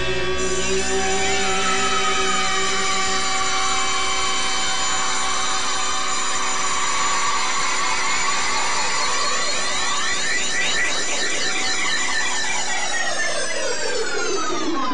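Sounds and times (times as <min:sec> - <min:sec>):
sustained tone drone: 0:00.0 - 0:14.0.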